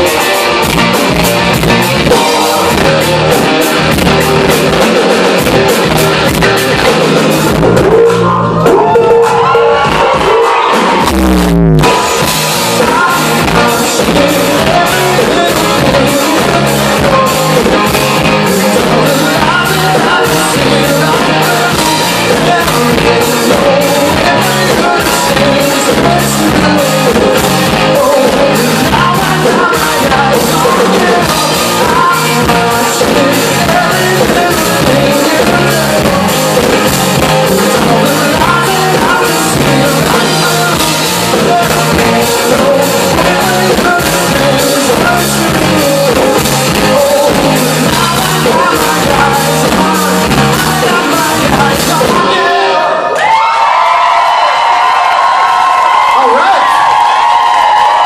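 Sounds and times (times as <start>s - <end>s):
drum kit beat: 0.0s - 52.5s
man singing lead vocal: 0.0s - 53.5s
bass guitar: 0.0s - 58.0s
distorted electric guitars: 0.0s - 58.0s.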